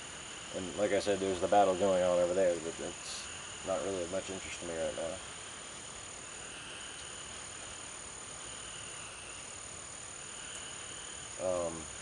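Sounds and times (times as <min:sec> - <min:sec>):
crickets high-pitched trill: 0:00.0 - 0:12.0
lower insect trill: 0:00.0 - 0:12.0.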